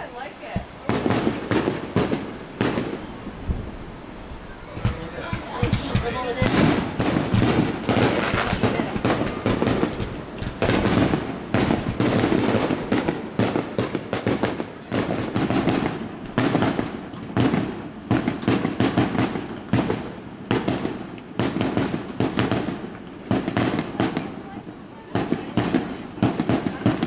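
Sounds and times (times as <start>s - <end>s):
continuous rumble: 0.0s - 27.0s
fireworks booms and cracks: 0.0s - 27.0s
fireworks crackling: 0.0s - 27.0s.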